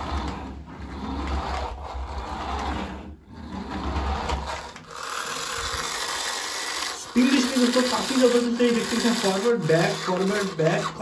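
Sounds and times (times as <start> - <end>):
toy car motor whirring: 0.0 - 11.0.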